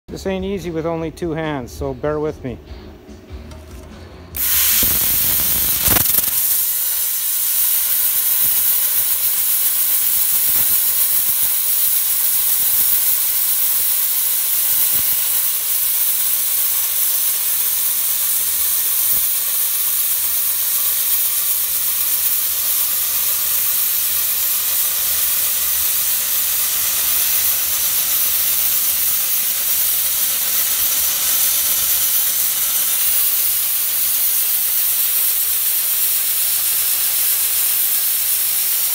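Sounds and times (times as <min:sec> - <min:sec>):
plasma cutter hissing: 0:03.6 - 0:38.9.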